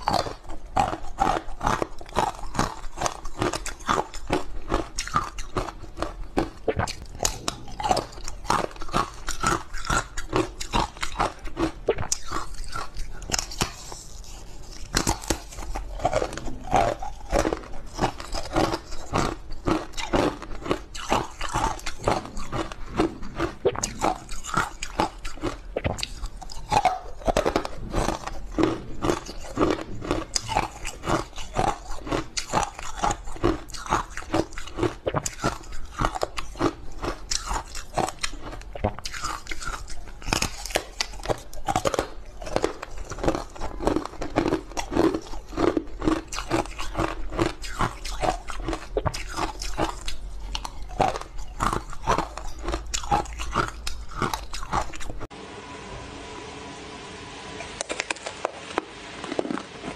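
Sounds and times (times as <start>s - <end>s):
chewing crunchy ice: 0.0s - 55.3s, 57.8s - 59.9s.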